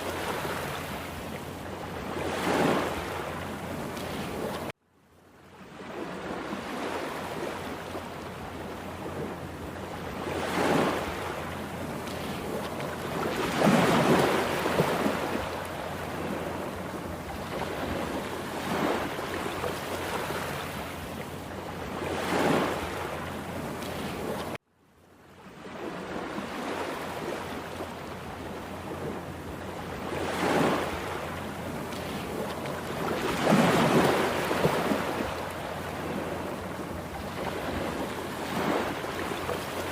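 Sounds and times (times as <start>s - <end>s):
rush of water: 0.0s - 4.8s, 9.0s - 24.6s, 26.0s - 39.9s
waves breaking: 0.0s - 4.8s, 5.5s - 24.6s, 25.4s - 39.9s.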